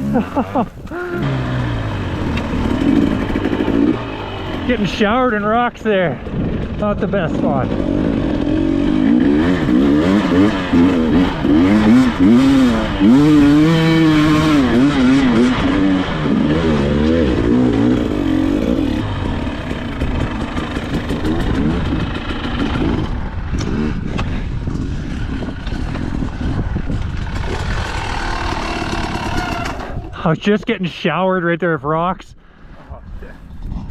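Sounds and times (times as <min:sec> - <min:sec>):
dirt bike engine revving: 0:00.0 - 0:30.2.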